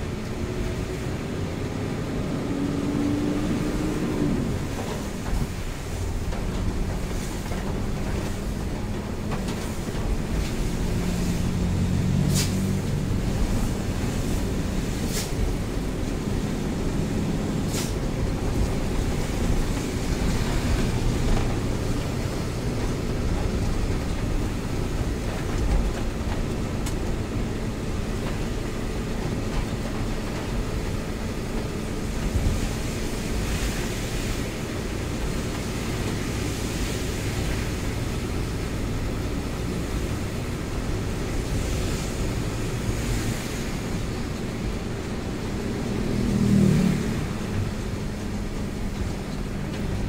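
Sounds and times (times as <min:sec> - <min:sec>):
diesel truck engine running: 0:00.0 - 0:50.0
tyre noise on wet road: 0:00.0 - 0:50.0.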